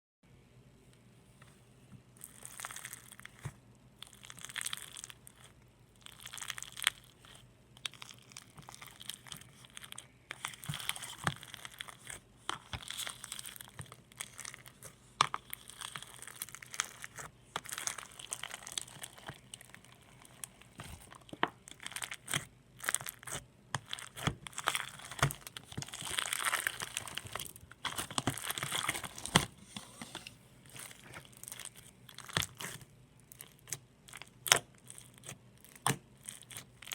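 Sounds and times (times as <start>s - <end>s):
slime crackling and popping: 2.2s - 29.5s, 30.6s - 36.9s.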